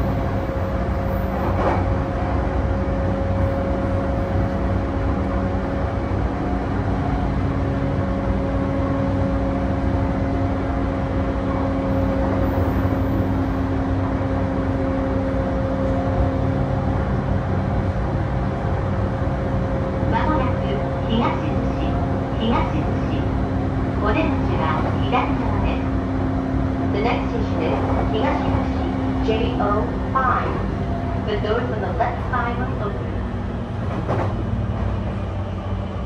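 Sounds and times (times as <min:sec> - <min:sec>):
wheel and rail rumble: 0:00.0 - 0:36.0.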